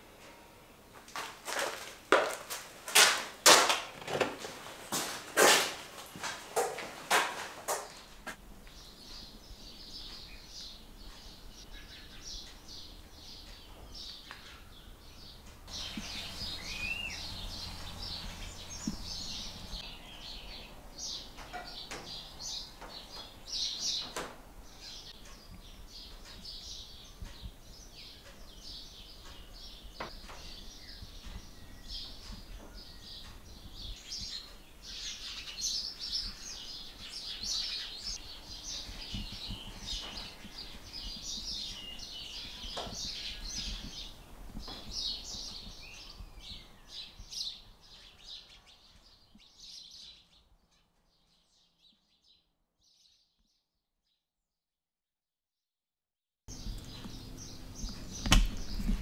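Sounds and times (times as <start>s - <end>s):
small birds chirping: 8.6s - 53.5s, 56.5s - 59.0s.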